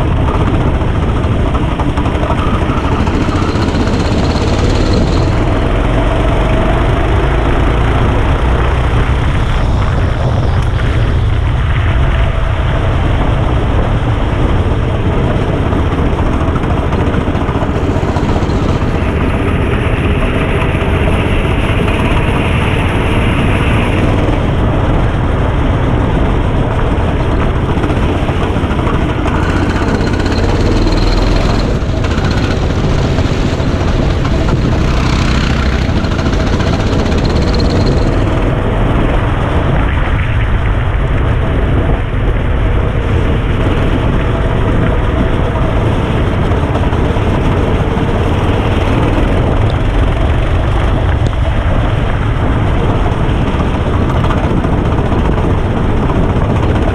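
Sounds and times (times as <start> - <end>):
go-kart engine running: 0.0 - 56.9.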